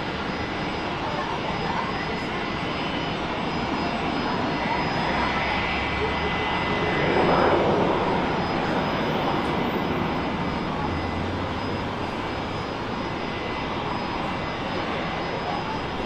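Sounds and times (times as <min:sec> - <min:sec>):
airliner engines rushing: 0:00.0 - 0:16.0.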